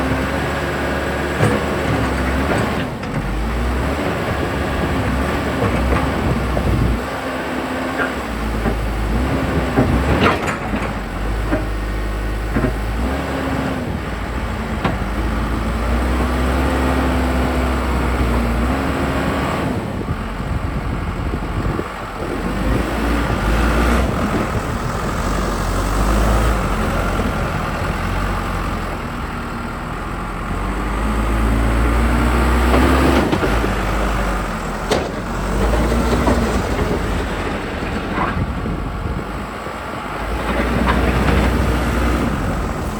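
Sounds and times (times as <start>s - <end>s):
backhoe diesel engine under load: 0.0s - 42.9s.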